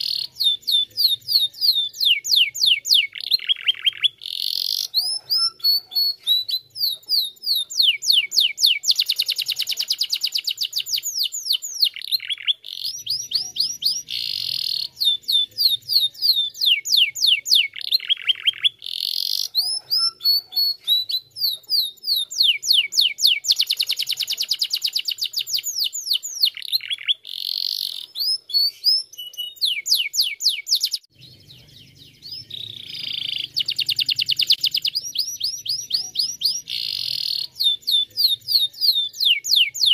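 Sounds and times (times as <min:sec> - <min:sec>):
canary singing trilled phrases: 0:00.0 - 0:39.9.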